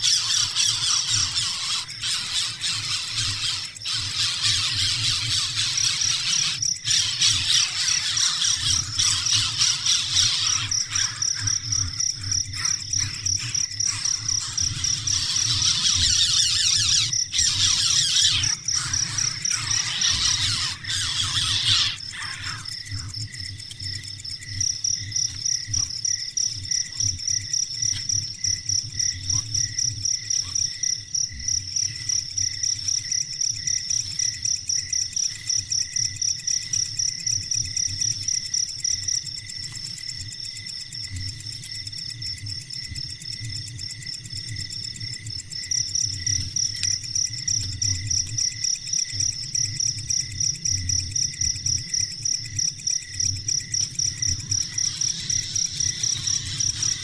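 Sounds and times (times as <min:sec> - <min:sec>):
crickets chirping: 0:00.0 - 0:57.0
lower chirping rhythm: 0:00.0 - 0:57.0.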